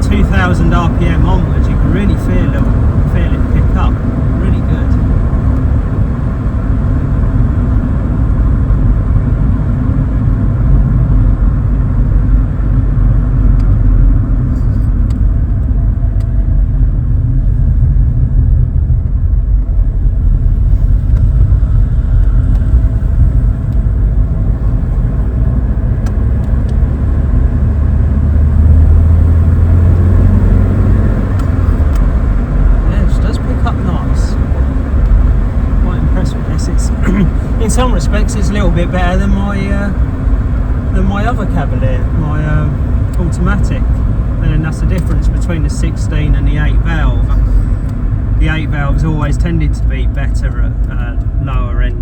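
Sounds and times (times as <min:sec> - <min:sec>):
car engine drone from inside: 0:00.0 - 0:52.0.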